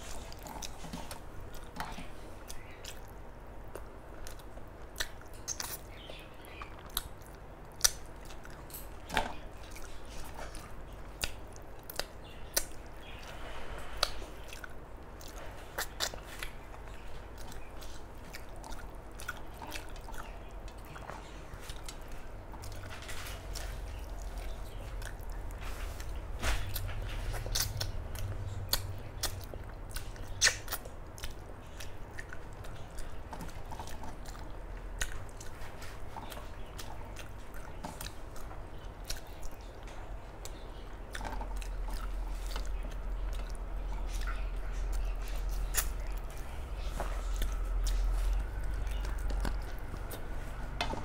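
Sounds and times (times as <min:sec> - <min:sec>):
low steady hum: 0:00.0 - 0:51.0
person chewing food: 0:00.0 - 0:51.0.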